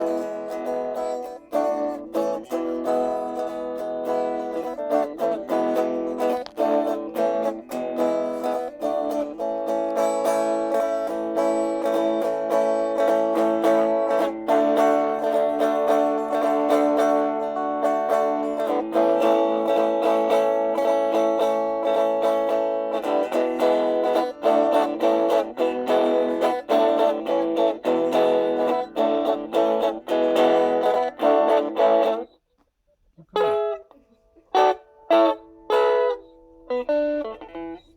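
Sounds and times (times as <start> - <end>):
electric guitar through small amp: 0.0 - 32.4, 33.2 - 37.9.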